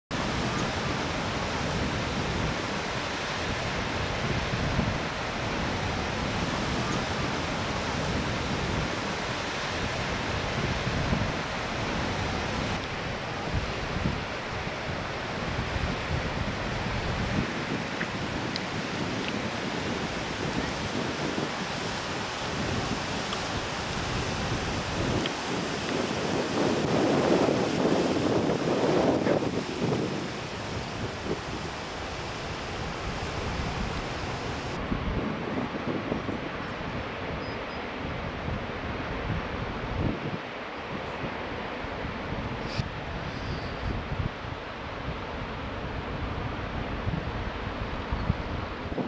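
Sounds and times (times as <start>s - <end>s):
stream rushing: 0.1s - 49.0s
wind gusting on microphone: 0.1s - 49.0s.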